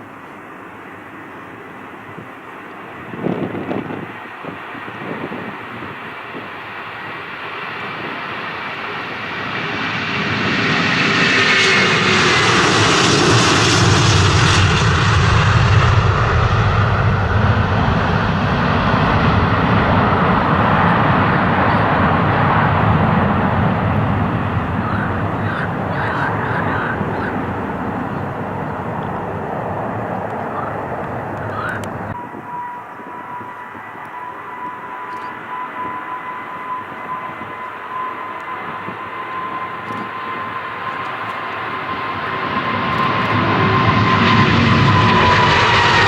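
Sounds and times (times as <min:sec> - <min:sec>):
airliner engine noise passing: 0:00.0 - 0:46.0
falling engine whine: 0:05.0 - 0:46.0.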